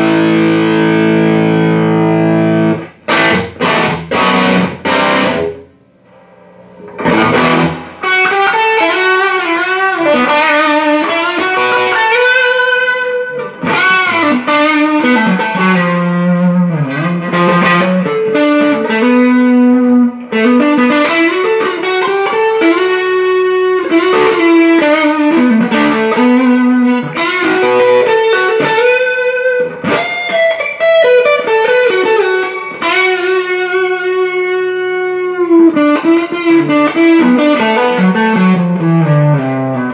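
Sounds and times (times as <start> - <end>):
electric guitar lead line: 0.0 - 39.9.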